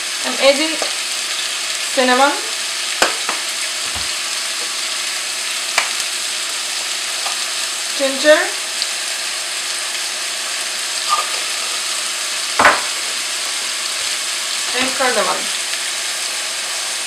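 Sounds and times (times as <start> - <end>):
apples sizzling in a pan: 0.0 - 17.0.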